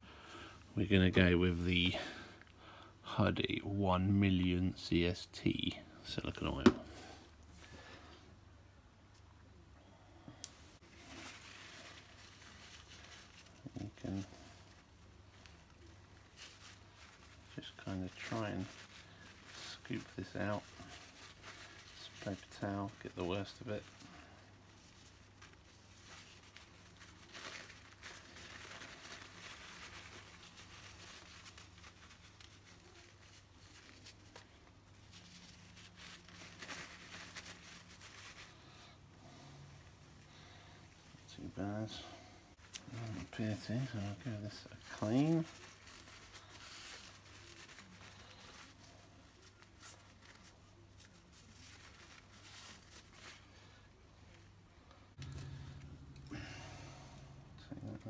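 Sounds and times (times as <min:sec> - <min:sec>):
low steady hum: 0:00.0 - 0:58.0
hands wiping plastic gear: 0:10.4 - 0:42.0, 0:42.6 - 0:58.0
paper towel rustling: 0:10.6 - 0:58.0.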